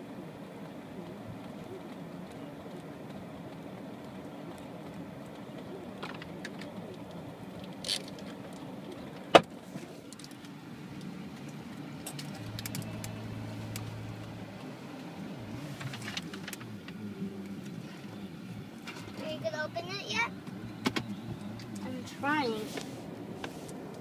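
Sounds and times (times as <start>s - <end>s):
car cabin hum: 0.0s - 24.0s
soft clicks and rustles: 0.5s - 19.4s, 20.4s - 24.0s.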